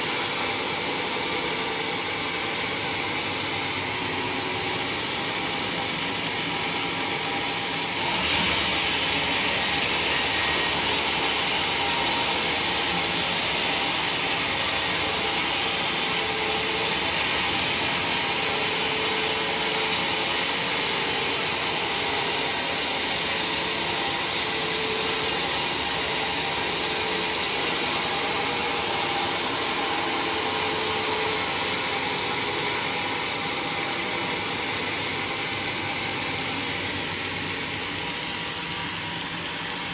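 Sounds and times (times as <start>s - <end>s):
power tool running: 0.0s - 39.9s.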